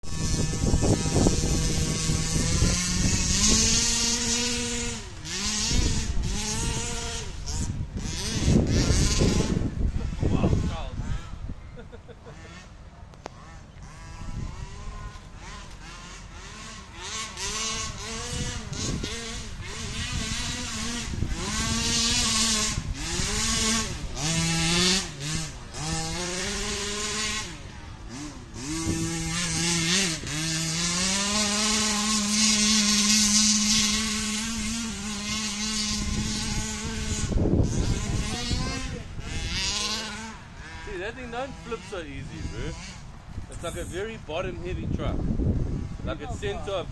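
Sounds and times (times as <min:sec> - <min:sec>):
rc truck motor whine: 0:00.0 - 0:46.9.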